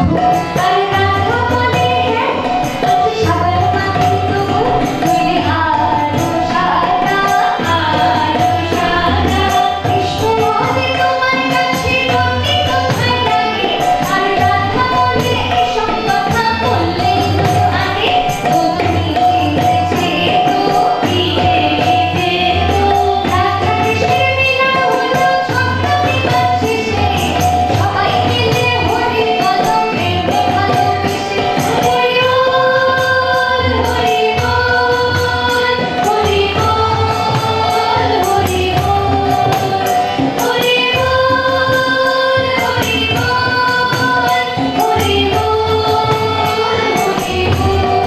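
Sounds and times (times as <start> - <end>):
harmonium: 0.0 - 48.0
percussion beat with jingles: 0.0 - 48.0
woman singing into microphone: 0.0 - 48.0.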